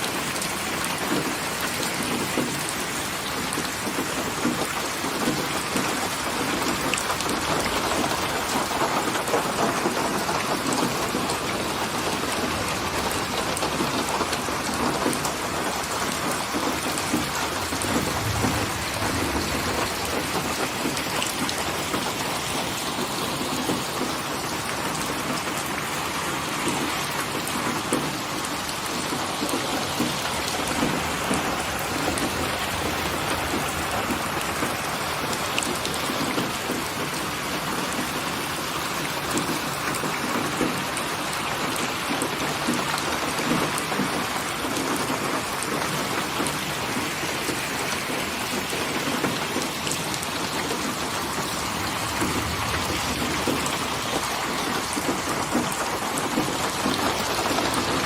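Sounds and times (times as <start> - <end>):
raindrops ticking on surface: 0.0 - 58.0
steady rain hiss: 0.0 - 58.0.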